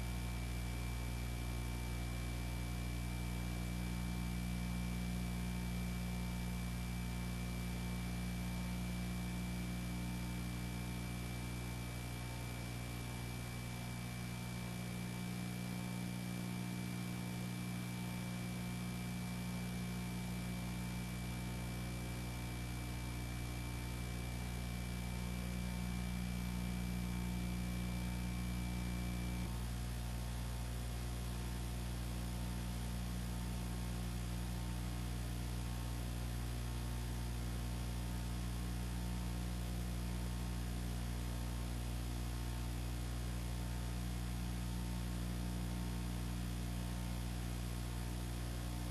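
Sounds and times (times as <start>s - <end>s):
electrical mains hum: 0.0s - 48.9s.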